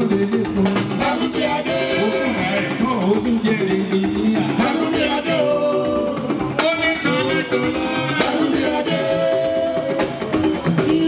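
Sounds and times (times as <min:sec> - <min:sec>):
drum kit groove: 0:00.0 - 0:11.0
electric guitars: 0:00.0 - 0:11.0.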